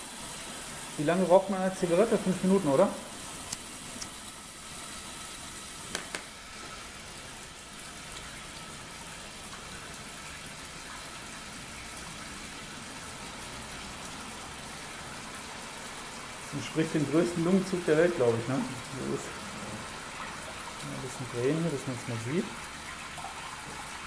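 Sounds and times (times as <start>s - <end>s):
water rushing from tap: 0.0s - 24.0s.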